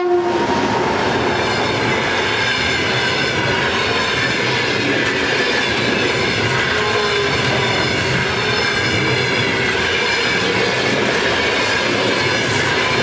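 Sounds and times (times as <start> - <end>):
train wheels rushing on rails: 0.0 - 13.0.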